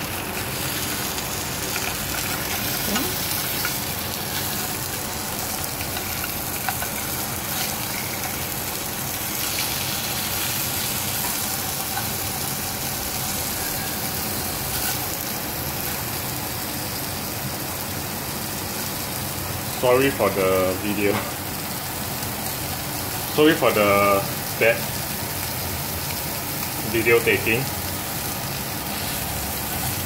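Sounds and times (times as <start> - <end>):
fish sizzling in a pan: 0.0 - 30.0.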